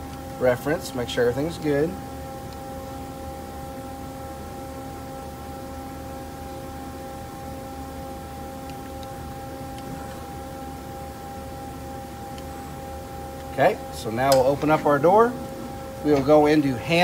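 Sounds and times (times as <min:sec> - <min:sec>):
lathe machine hum: 0:00.0 - 0:17.0.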